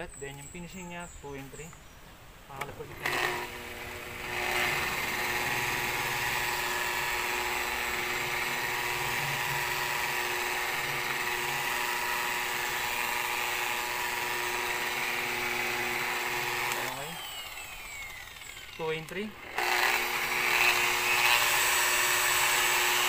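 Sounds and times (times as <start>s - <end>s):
electric polisher motor whine: 2.9s - 23.0s.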